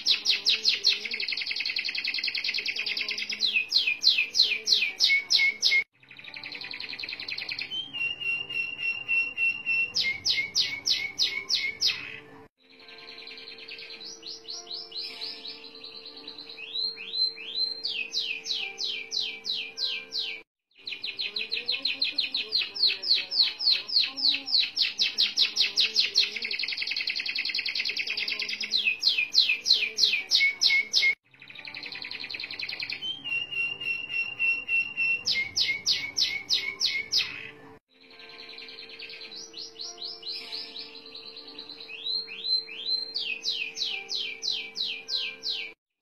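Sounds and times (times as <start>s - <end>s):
canary singing trills: 0.0s - 45.8s.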